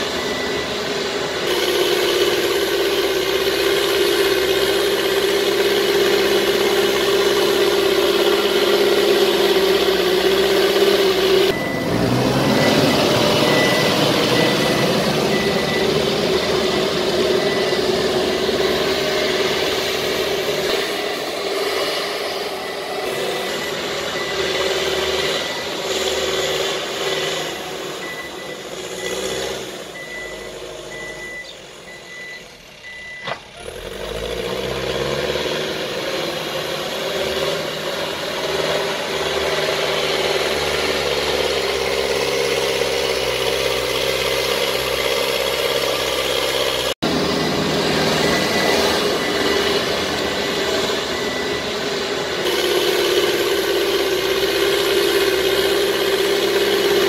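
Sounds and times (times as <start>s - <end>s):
diesel engine running under load: 0.0s - 57.0s
reversing alarm beeping: 0.0s - 57.0s.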